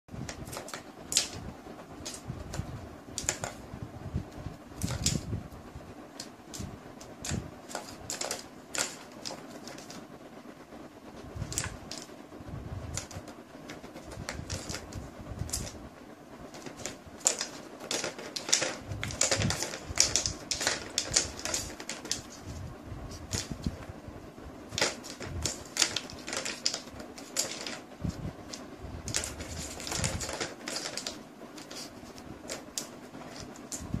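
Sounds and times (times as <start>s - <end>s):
plastic balls rattling in tracks: 0.2s - 3.7s, 4.3s - 5.4s, 6.0s - 10.2s, 11.3s - 24.0s, 24.6s - 34.0s.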